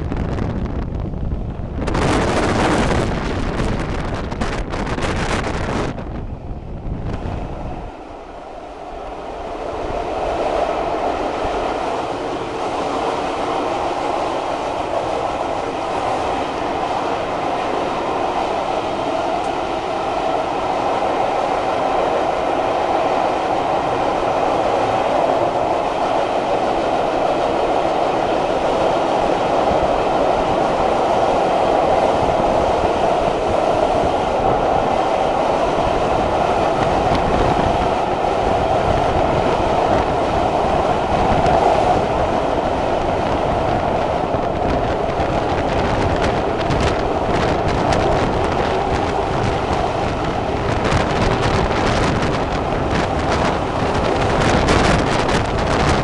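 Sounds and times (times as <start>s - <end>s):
train wheels on rails: 7.0s - 56.0s.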